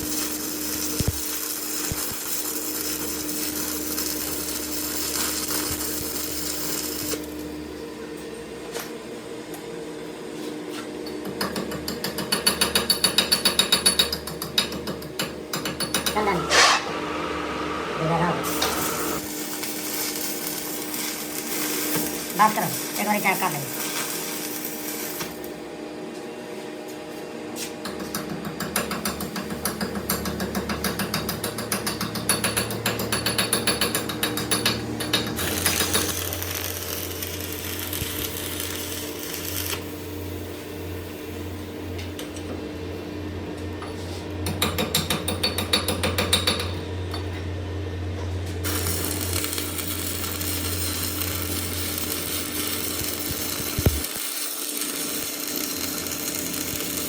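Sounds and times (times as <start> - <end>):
workshop machinery humming: 0.0 - 57.0.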